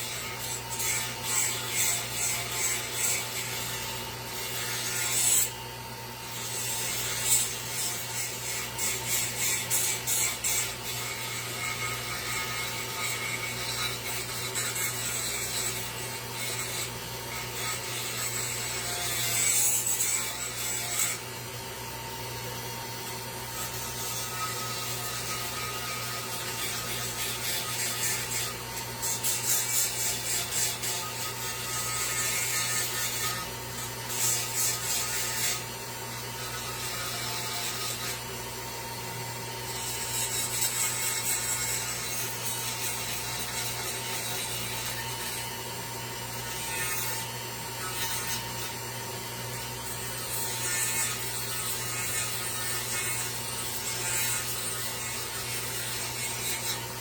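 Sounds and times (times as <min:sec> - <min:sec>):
tool scraping on wood: 0:00.0 - 0:05.6, 0:06.3 - 0:21.3, 0:23.4 - 0:38.4, 0:39.3 - 0:57.0.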